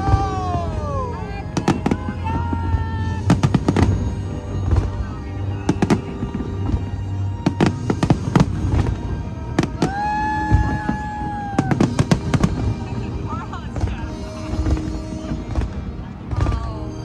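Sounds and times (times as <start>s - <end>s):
fireworks bangs: 0.0s - 16.8s.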